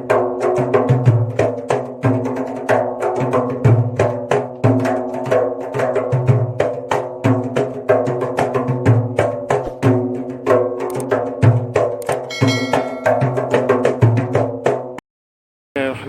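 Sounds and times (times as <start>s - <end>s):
percussive music with wood blocks: 0.0s - 15.0s.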